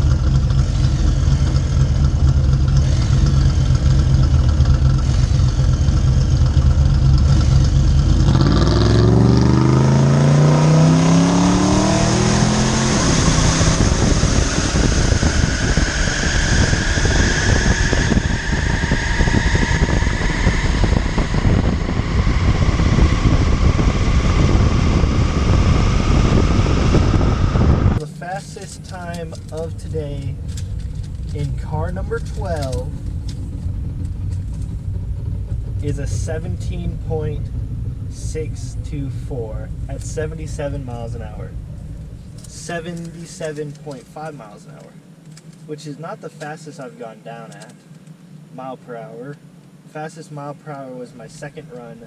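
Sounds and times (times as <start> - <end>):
car engine accelerating: 0.0 - 45.7
high whine rising in pitch: 0.0 - 45.9
road and wind rush: 0.0 - 52.0.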